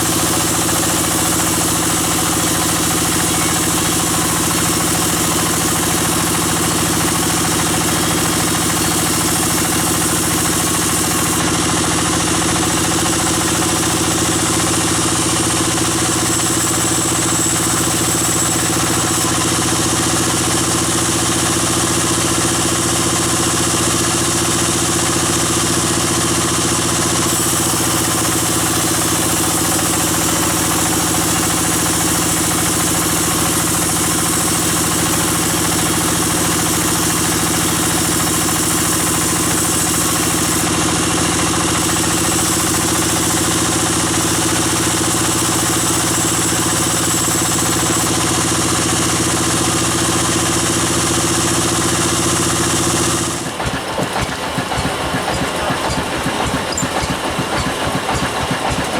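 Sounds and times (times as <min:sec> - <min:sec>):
band saw and engine humming: 0:00.0 - 0:58.9.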